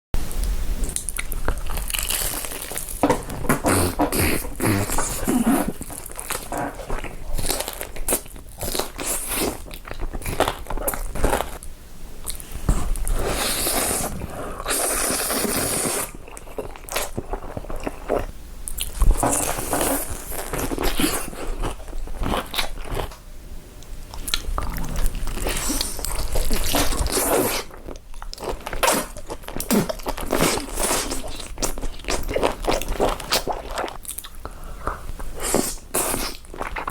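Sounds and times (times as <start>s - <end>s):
crunchy chewing: 0.9s - 23.2s, 24.1s - 36.9s.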